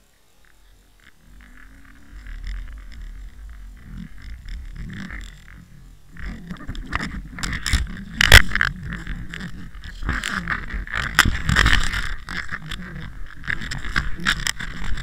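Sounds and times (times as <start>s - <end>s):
low underwater rumble: 0.5s - 15.0s.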